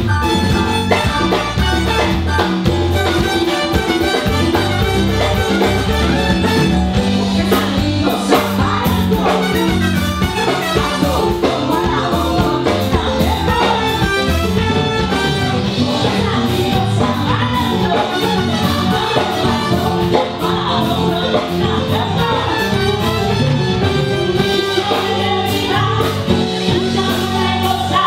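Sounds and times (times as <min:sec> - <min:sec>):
band playing latin dance music: 0:00.0 - 0:28.0.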